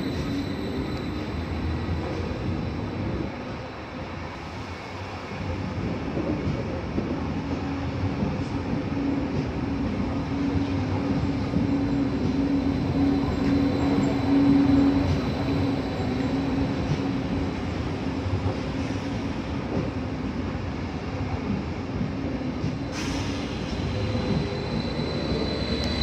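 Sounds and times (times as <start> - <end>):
train low hum: 0.0 - 26.0
train wheels rumbling on rails: 0.0 - 26.0.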